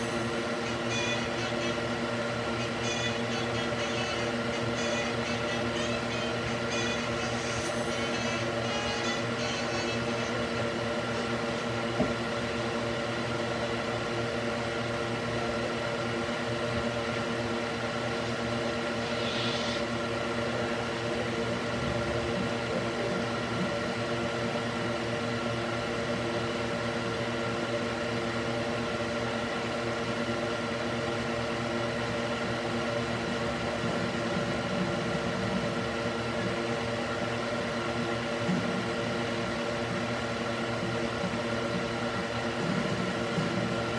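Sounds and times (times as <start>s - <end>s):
cooling fan whirring: 0.0s - 43.9s.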